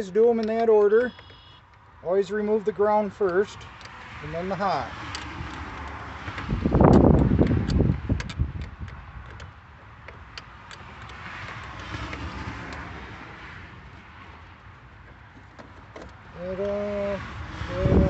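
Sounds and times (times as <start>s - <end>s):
tools clicking on battery terminals: 0.0s - 16.8s.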